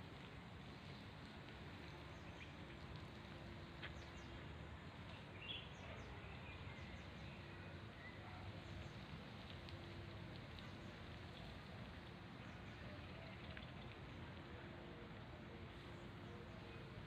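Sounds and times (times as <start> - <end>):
outdoor background noise: 0.0 - 17.0
faint songbirds chirping: 0.6 - 17.0.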